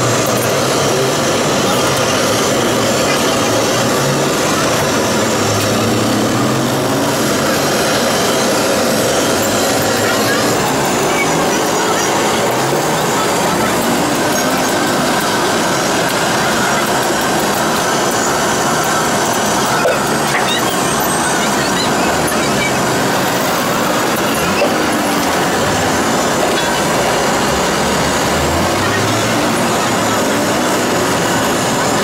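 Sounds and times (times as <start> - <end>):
loud background din: 0.0 - 32.0.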